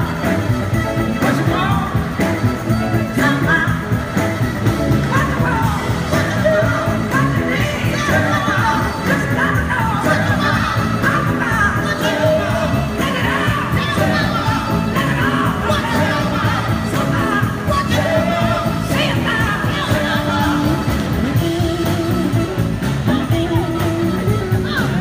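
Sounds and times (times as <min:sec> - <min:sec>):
drums: 0:00.0 - 0:25.0
electric guitars: 0:00.0 - 0:25.0
horn section: 0:00.0 - 0:25.0
person singing: 0:00.0 - 0:25.0.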